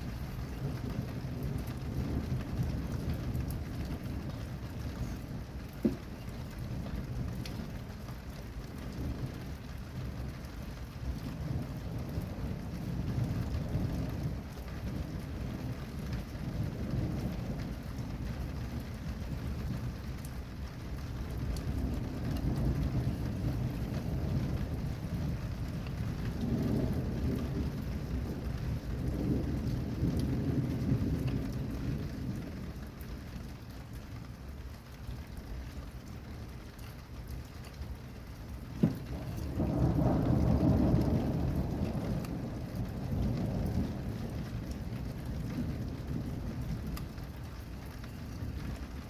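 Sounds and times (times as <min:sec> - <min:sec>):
rain falling: 0:00.0 - 0:49.0
thunder rumbling: 0:00.0 - 0:49.0.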